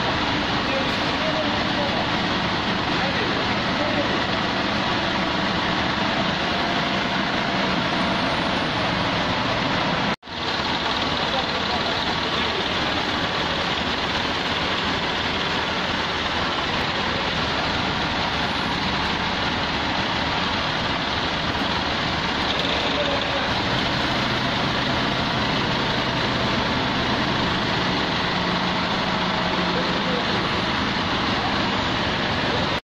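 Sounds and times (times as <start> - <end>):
forklift running: 0.0 - 32.8.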